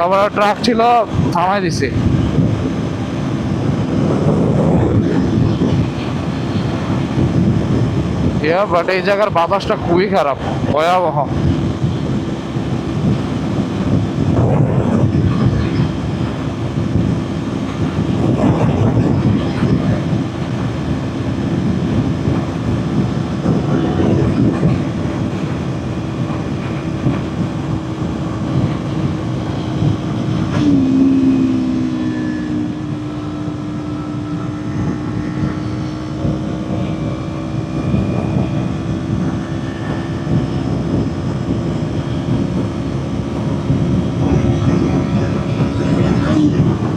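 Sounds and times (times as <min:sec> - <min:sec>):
lower engine note dipping: 0:00.0 - 0:46.9
motorcycle engine droning at high rpm: 0:00.0 - 0:46.9
wind rush on microphone: 0:00.0 - 0:46.9.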